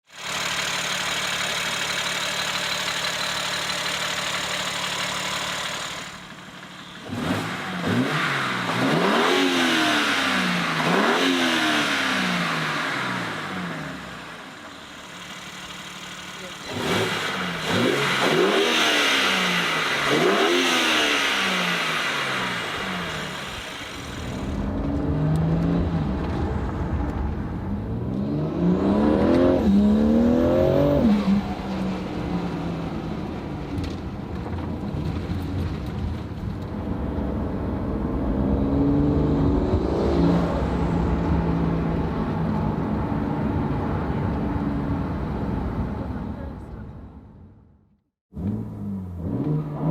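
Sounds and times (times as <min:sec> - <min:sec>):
car engine revving: 0:00.2 - 0:46.9, 0:48.4 - 0:49.9.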